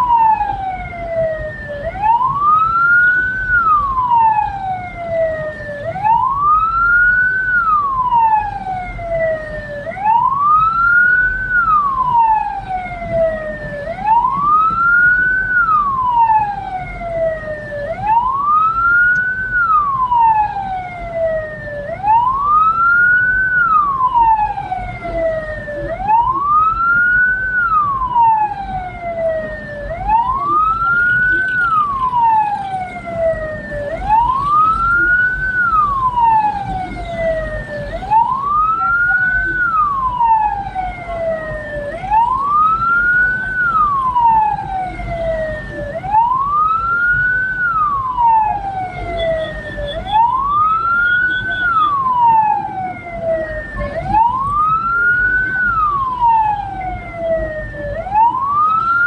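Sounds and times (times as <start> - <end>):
vehicle rumble on road: 0.0 - 59.0
wail siren rising and falling: 0.0 - 59.0.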